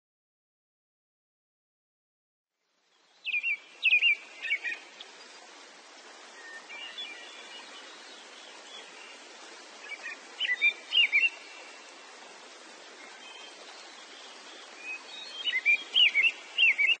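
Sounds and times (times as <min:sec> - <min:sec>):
steady background hiss: 0:02.6 - 0:17.0
birds chirping: 0:03.0 - 0:17.0.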